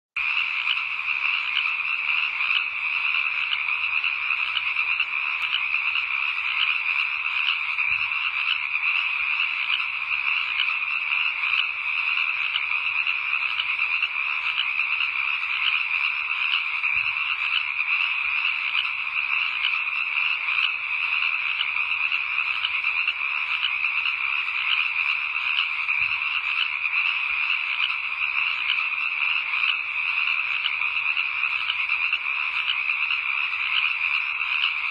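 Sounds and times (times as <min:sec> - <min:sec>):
chorus of frogs calling: 0:00.2 - 0:34.9.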